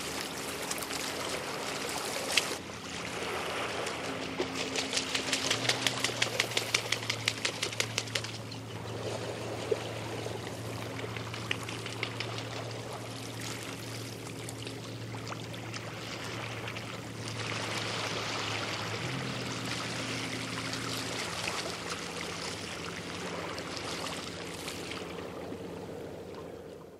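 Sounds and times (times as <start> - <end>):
steady low hum: 0.0 - 26.9
waves lapping against boats: 0.0 - 26.9.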